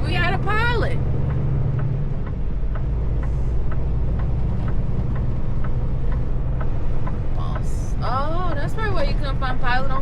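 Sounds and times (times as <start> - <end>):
truck engine droning: 0.0 - 10.0
turn signal ticking: 0.0 - 10.0.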